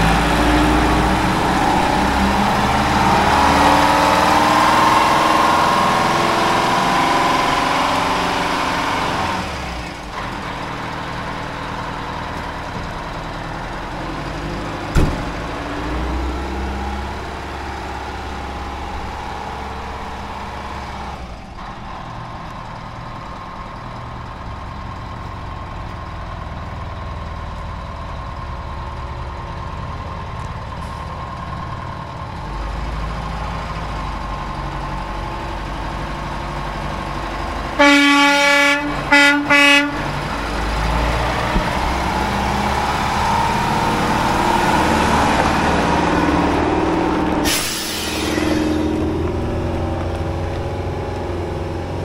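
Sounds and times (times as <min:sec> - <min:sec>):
truck diesel engine pulling away: 0:00.0 - 0:52.0.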